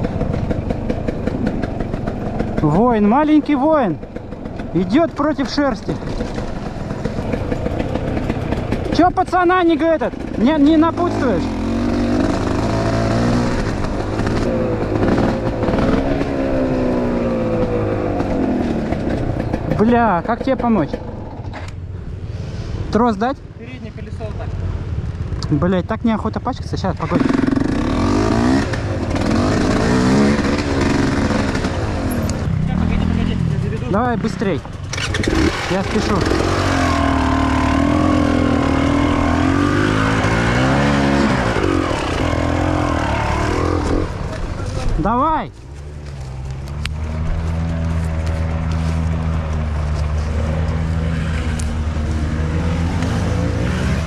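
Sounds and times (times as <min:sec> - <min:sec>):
motorcycle engine revving: 0:00.0 - 0:21.8, 0:26.9 - 0:54.0.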